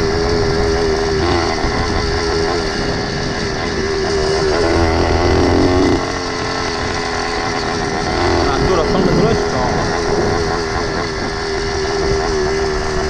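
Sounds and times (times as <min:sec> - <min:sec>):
motorized bicycle engine running: 0:00.0 - 0:13.0.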